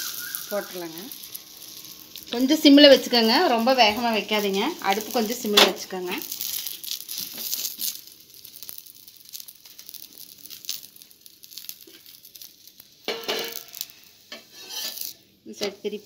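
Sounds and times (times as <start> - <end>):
fine crackle of frying: 0.0 - 16.0
flatbread sizzling in oil: 0.0 - 16.0.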